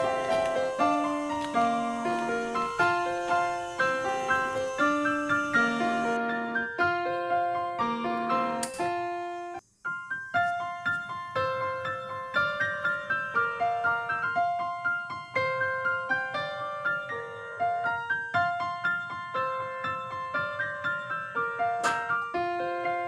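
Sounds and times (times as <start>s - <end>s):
light keyboard melody: 0.0s - 23.0s.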